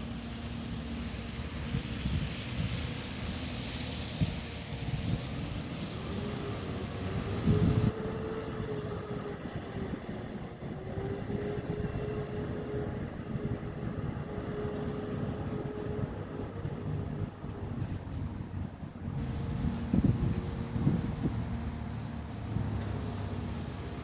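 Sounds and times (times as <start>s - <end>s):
machinery hum and whine: 0.0s - 24.0s
wind on microphone: 0.0s - 24.0s.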